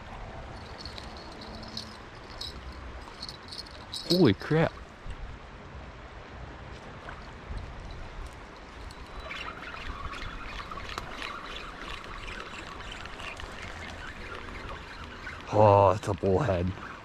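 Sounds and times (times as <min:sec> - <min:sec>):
river water trickling and splashing: 0:00.0 - 0:17.0.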